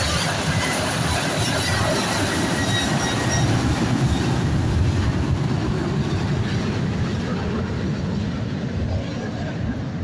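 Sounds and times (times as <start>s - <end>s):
jet engines at take-off thrust: 0.0s - 10.0s.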